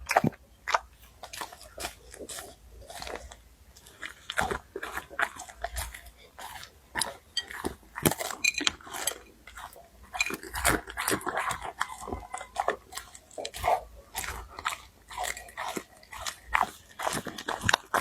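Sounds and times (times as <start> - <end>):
dog eating noisily: 0.0 - 18.0.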